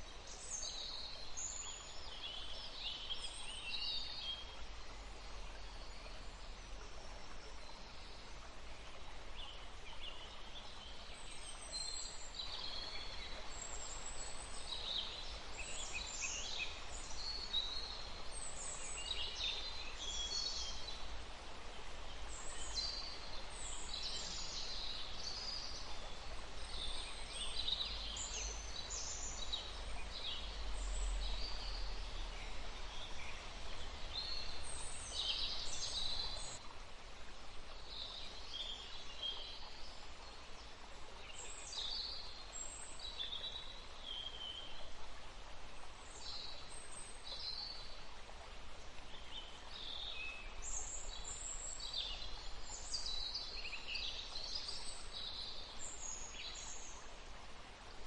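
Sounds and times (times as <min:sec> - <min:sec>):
stream running: 0:00.0 - 0:58.0.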